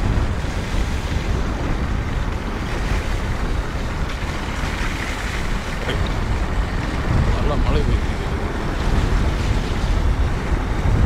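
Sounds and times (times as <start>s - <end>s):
vehicle rumble: 0.0s - 11.0s
wind rushing over microphone: 0.0s - 11.0s.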